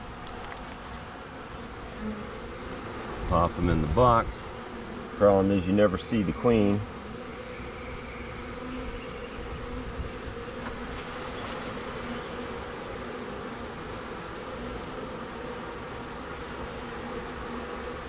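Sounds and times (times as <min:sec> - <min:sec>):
bee swarm buzzing: 0:00.0 - 0:18.0.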